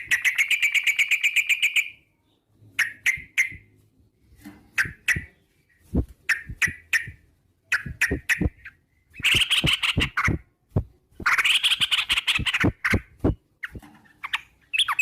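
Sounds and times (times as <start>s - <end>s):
rapid chattering bird trill: 0.0s - 2.0s, 2.8s - 3.7s, 4.7s - 10.5s, 11.2s - 15.0s.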